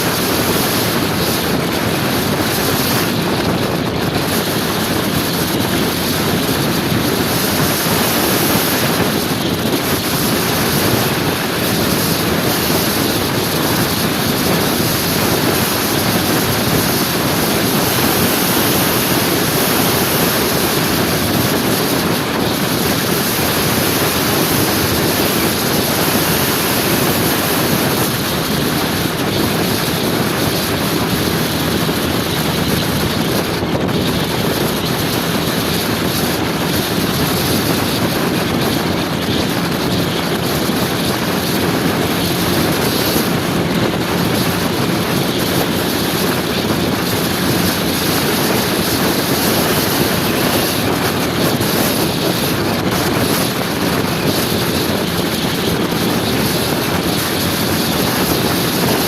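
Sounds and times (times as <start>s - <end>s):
scooter engine drone: 0.0s - 59.0s
wind noise on microphone: 0.0s - 59.0s.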